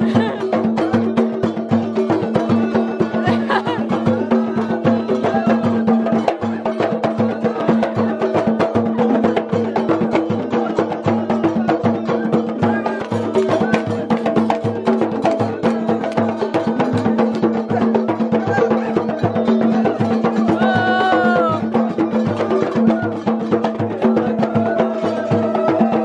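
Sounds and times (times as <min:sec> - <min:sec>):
hand drum fast rhythm: 0:00.0 - 0:26.0.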